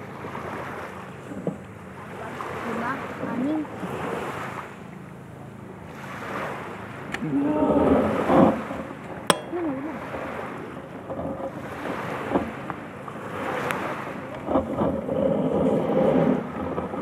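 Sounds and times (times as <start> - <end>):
waves washing on shore: 0.0 - 17.0.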